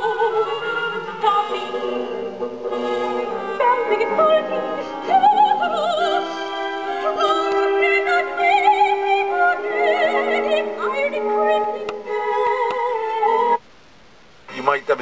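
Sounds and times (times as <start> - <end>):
instrumental accompaniment: 0.0 - 13.6.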